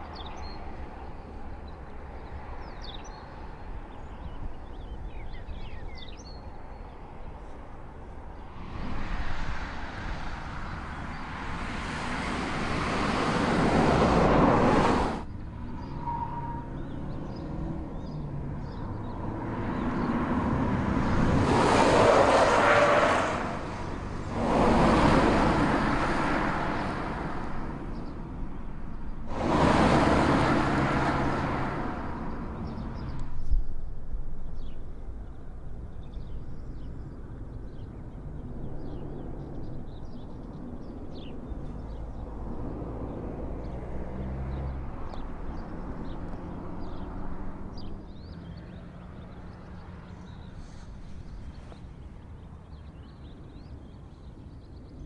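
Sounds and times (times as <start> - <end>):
cars passing at speed: 8.0 - 55.0.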